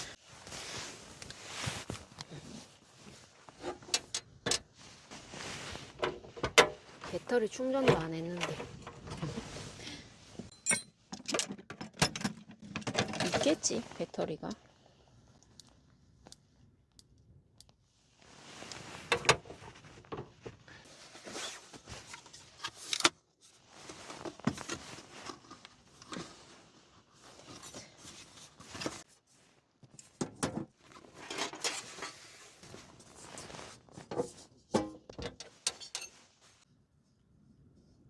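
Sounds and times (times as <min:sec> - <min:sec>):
objects rustling: 0:00.0 - 0:10.8, 0:12.4 - 0:14.2, 0:18.3 - 0:36.6.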